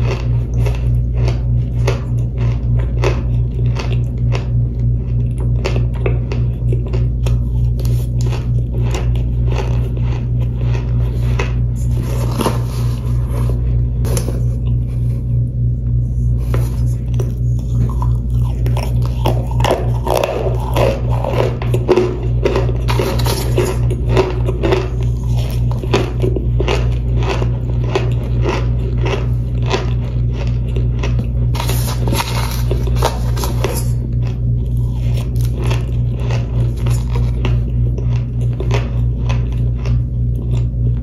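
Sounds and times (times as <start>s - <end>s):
person crunching food: 0.0s - 41.0s
steady low hum: 0.0s - 41.0s.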